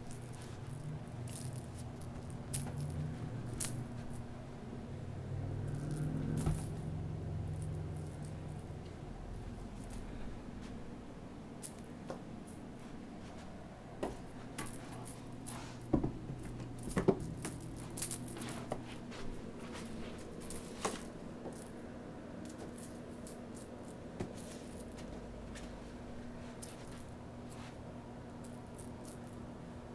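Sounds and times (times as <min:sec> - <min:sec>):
faint low hum: 0:00.0 - 0:29.9.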